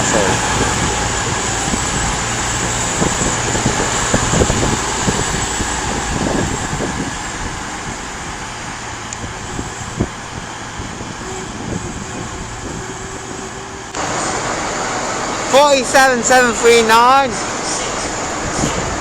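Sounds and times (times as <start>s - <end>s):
train diesel engines idling: 0.0s - 19.0s.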